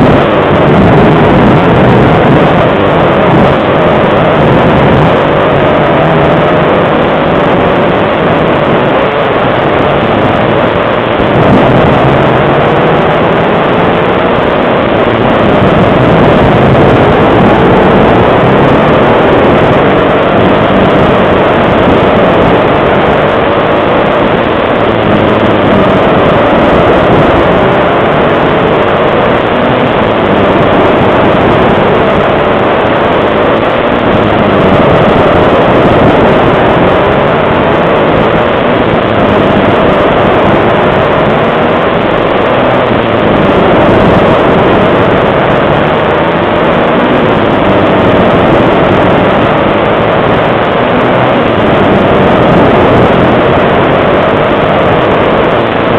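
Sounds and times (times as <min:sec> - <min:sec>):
pit bike engines revving: 0:00.0 - 0:55.9.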